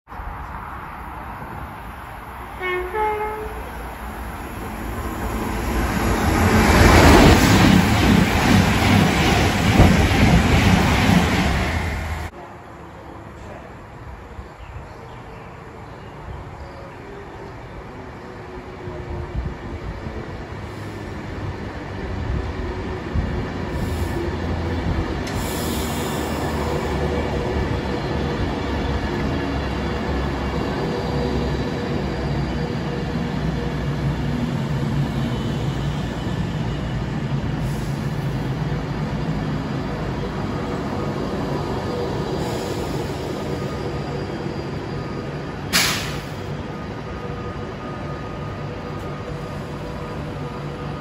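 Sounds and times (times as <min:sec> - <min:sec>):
train wheel and air noise: 0:00.2 - 0:12.5, 0:17.2 - 0:51.0.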